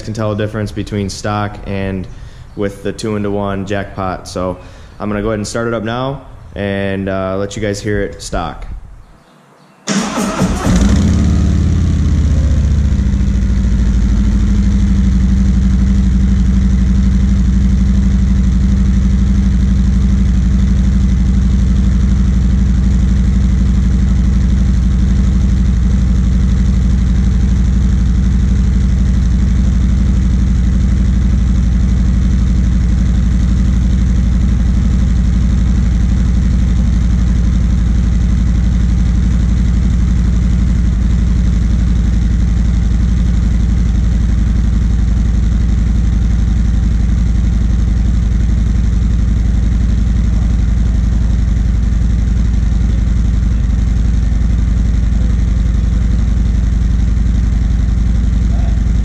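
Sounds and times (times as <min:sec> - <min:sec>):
motorcycle engine idling: 0:09.1 - 0:59.0.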